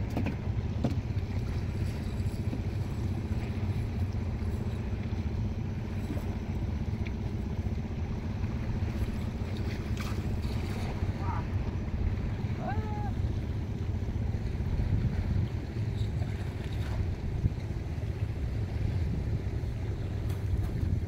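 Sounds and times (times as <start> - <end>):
water moving: 0.0 - 21.0
wind buffeting microphone: 1.0 - 21.0.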